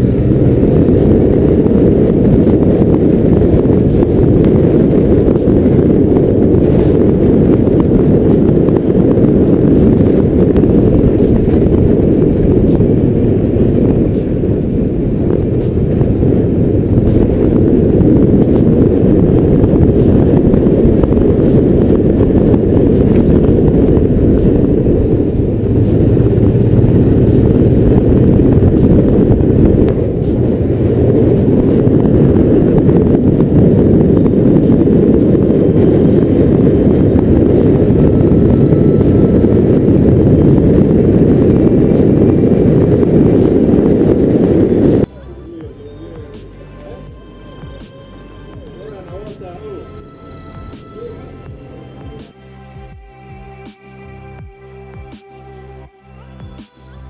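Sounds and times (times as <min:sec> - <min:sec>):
motorcycle engine running: 0:00.0 - 0:47.9
wind rumble on microphone: 0:00.0 - 0:57.0.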